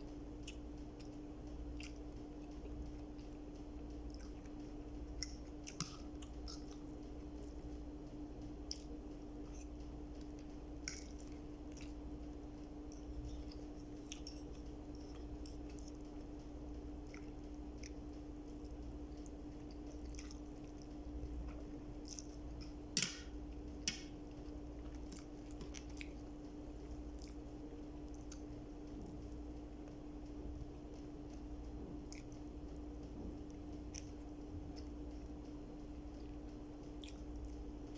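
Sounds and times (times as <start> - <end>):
chewing with wet clicks: 0.0 - 37.9
steady low hum: 0.0 - 37.9.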